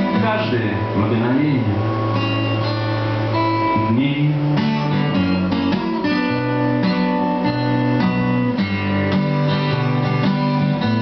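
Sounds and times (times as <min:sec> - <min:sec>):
acoustic guitar playing chords: 0:00.0 - 0:11.0.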